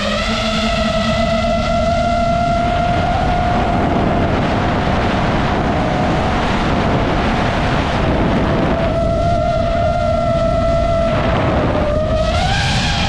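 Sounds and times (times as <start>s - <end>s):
drone motors whining: 0.0s - 13.0s
wind rush on microphone: 0.0s - 13.0s.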